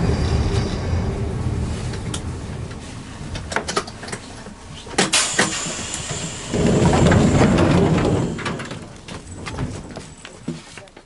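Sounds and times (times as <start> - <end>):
low rumble: 0.0 - 5.0, 5.6 - 10.0
train knocks and clanks: 0.0 - 11.0.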